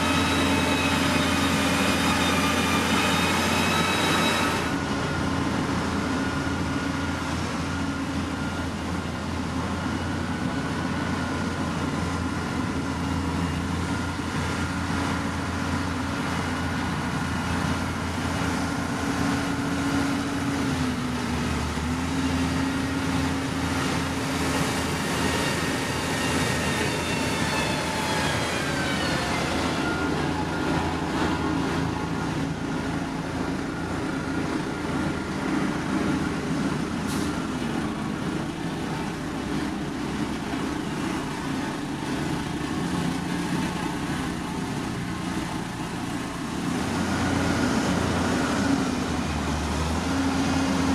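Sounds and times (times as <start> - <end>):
heavy machinery diesel engine: 0.0 - 50.9.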